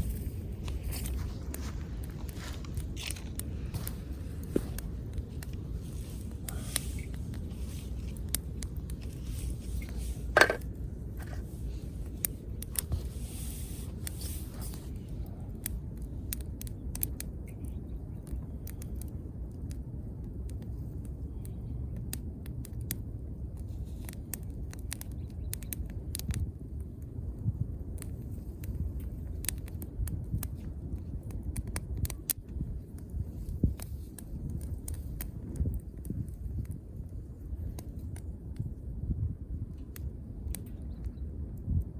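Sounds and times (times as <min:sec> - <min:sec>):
campfire crackling and popping: 0:00.0 - 0:41.9
steady low rumble: 0:00.0 - 0:41.9.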